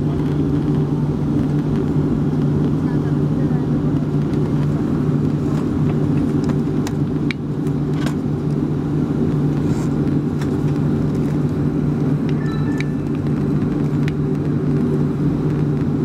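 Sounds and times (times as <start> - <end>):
jet engine hum in cabin: 0.0 - 16.0.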